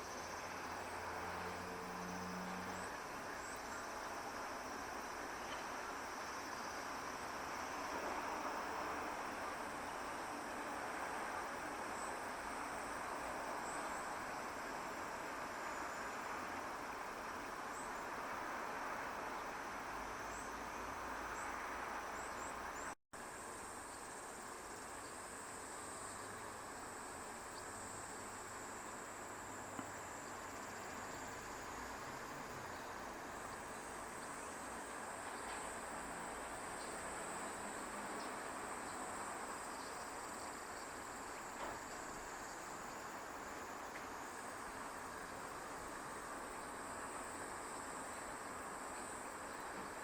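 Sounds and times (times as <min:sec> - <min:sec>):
faint outdoor background noise: 0:00.0 - 0:50.0.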